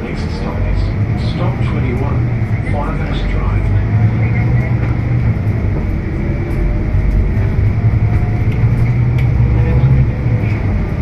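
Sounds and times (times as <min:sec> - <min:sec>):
bus drivetrain rumble: 0:00.0 - 0:11.0
road noise: 0:00.0 - 0:11.0.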